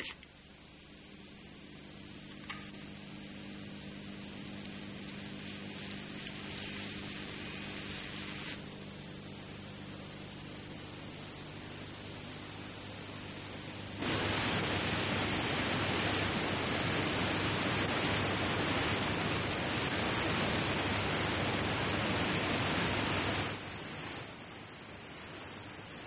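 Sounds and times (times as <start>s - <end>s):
faint low hum: 0.0s - 26.0s
recording hiss: 0.0s - 26.0s.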